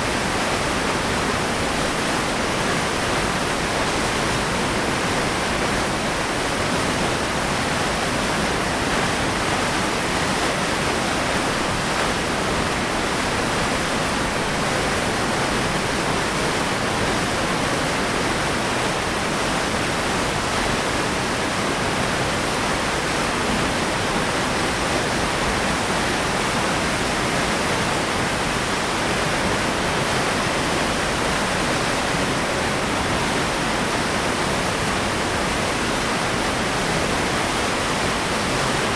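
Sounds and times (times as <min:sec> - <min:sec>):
waterfall rushing onto rock: 0:00.0 - 0:38.9.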